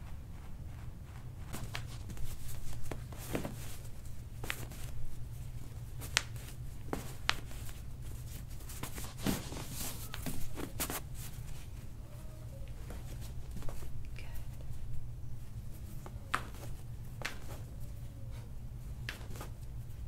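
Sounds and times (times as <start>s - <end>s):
cloth rustling on skin: 0.0s - 20.0s.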